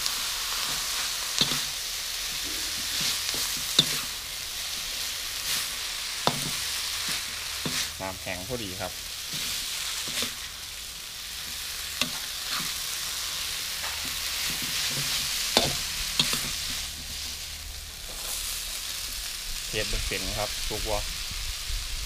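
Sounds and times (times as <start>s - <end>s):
metal spatula scraping a wok: 0.0s - 8.6s, 9.2s - 19.0s
noodles sizzling in a wok: 0.0s - 22.0s.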